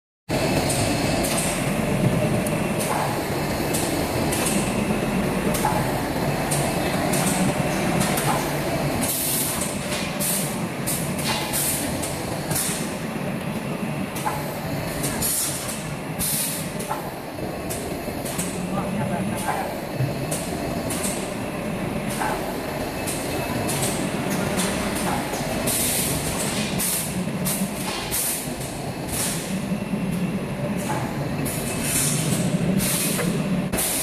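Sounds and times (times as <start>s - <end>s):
packaging machine clatter and hum: 0.3s - 34.0s.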